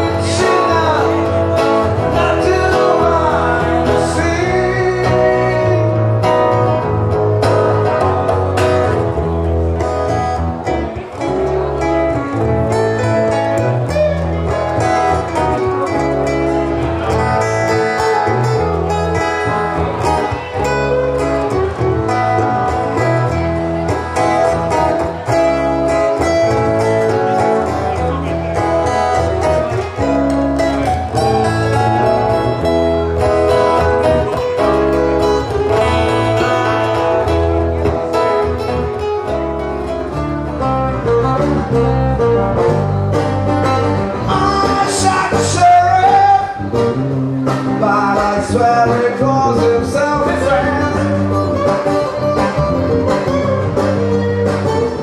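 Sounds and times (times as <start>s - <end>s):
acoustic guitar: 0.0s - 55.0s
bass: 0.0s - 55.0s.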